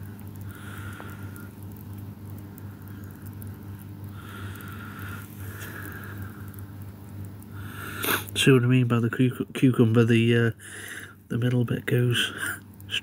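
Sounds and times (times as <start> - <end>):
steady low hum: 0.0 - 13.0
tadpoles gulping air crackling: 0.0 - 13.0.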